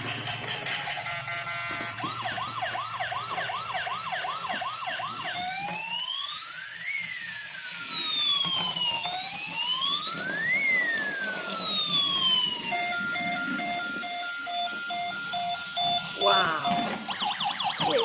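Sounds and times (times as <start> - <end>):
toy ambulance electronic siren: 0.0 - 18.0.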